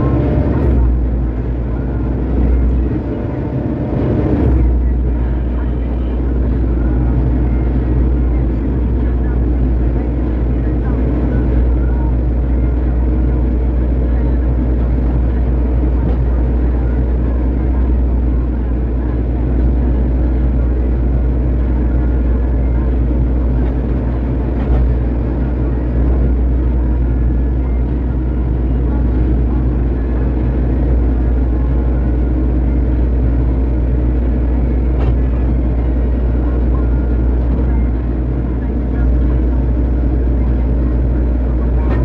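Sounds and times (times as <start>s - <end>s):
excavator diesel engine drone: 0.0s - 42.0s.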